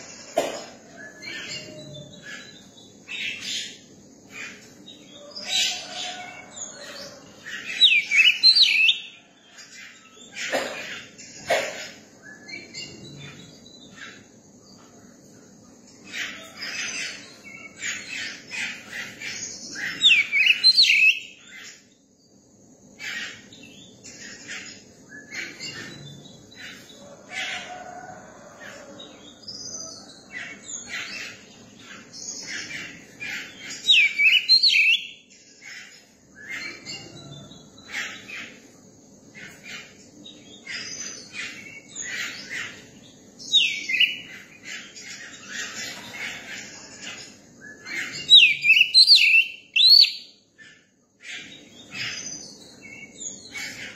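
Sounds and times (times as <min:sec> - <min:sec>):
bird chirping: 0:00.0 - 0:28.0, 0:28.6 - 0:53.9.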